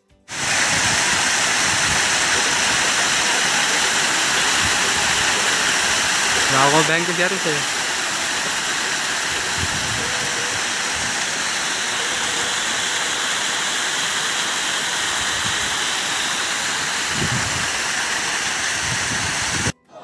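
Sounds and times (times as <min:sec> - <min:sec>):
waterfall rushing: 0:00.3 - 0:19.7.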